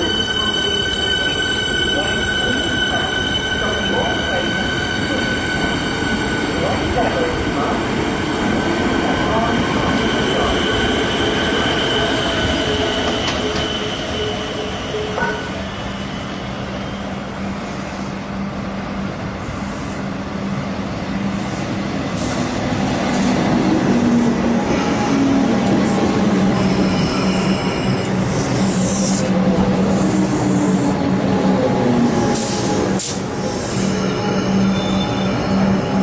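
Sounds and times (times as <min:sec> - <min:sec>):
electric train whine: 0:00.0 - 0:36.0
train arriving at platform: 0:00.0 - 0:36.0.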